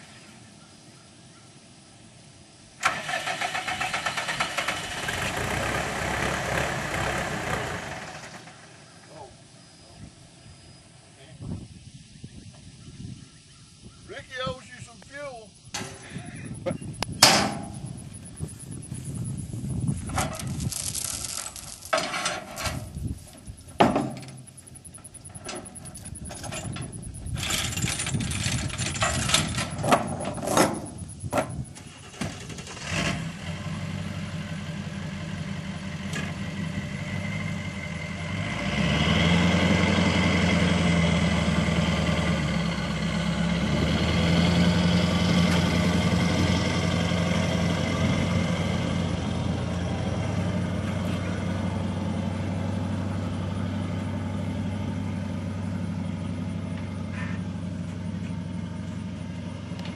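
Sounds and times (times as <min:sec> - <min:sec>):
truck engine running: 0:02.8 - 0:09.2, 0:15.6 - 0:59.9.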